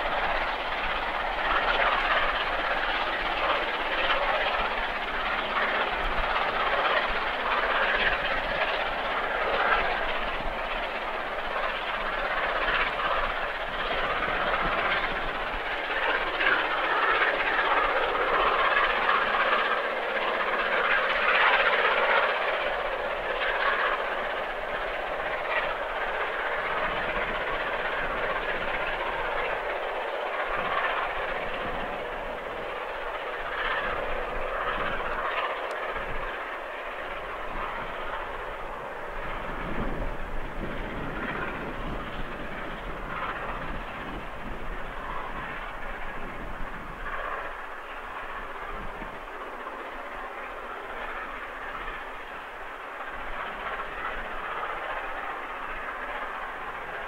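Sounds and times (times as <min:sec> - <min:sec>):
steam locomotive pulling train: 0:00.0 - 0:57.0.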